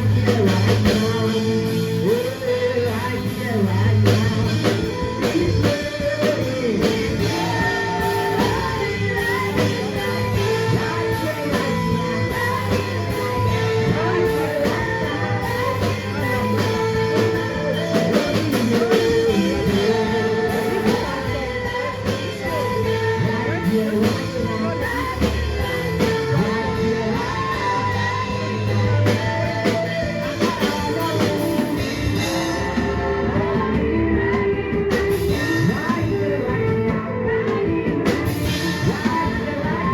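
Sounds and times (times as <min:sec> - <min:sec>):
band accompaniment: 0:00.0 - 0:39.9
person singing gospel song: 0:00.0 - 0:39.9.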